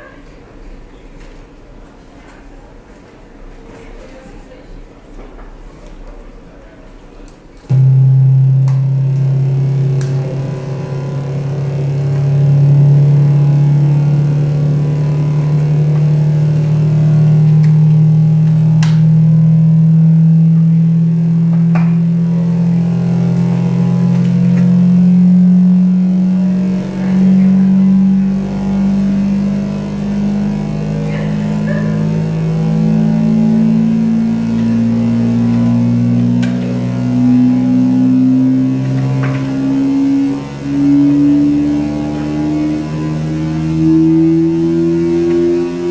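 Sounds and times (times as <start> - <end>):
loud electronic drone: 7.7 - 45.9.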